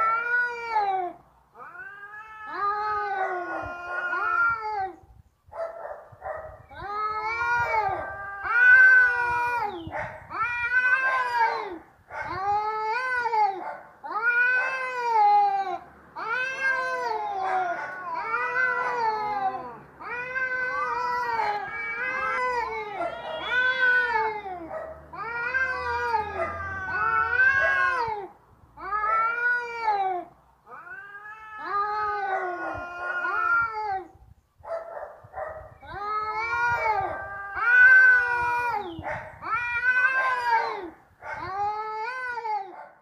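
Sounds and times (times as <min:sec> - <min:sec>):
cat yowling: 0:00.0 - 0:05.0, 0:06.8 - 0:34.1, 0:35.8 - 0:42.9.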